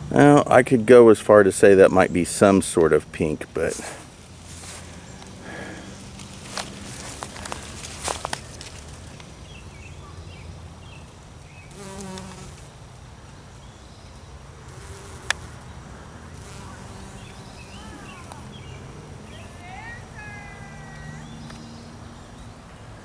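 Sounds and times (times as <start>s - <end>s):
insects buzzing: 0.0s - 22.4s.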